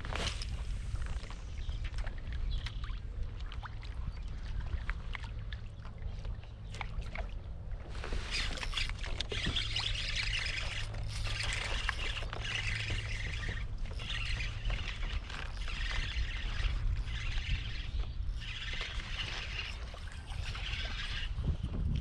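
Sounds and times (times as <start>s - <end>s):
water sloshing against a kayak: 0.0s - 22.0s.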